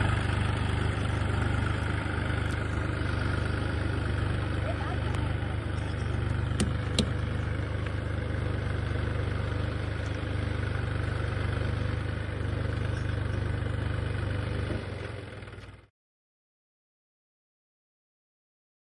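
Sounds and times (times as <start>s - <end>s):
tractor diesel engine idling: 0.0s - 15.9s.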